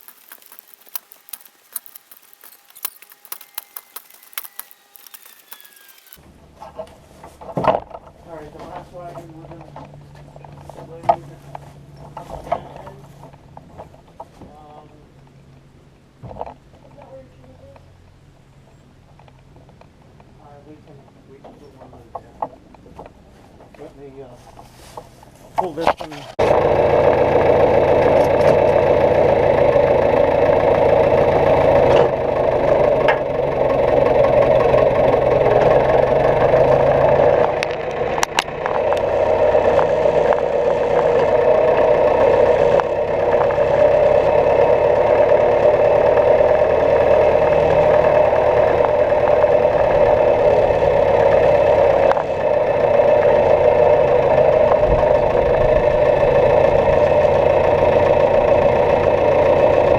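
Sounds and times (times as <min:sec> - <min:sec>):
tractor engine running: 0:00.0 - 0:23.7, 0:24.5 - 0:59.9.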